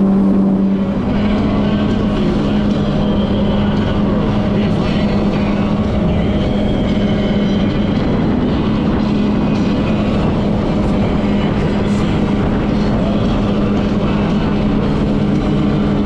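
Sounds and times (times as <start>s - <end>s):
jet ski engine running: 0.0s - 16.0s
rush of wind and water: 0.0s - 16.0s.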